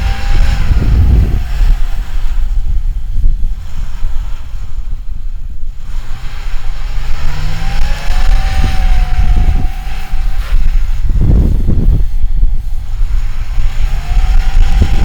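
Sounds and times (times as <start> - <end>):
engine whine: 0.0 - 15.0
vehicle engine revving: 0.0 - 15.0
wind buffeting microphone: 0.0 - 15.0.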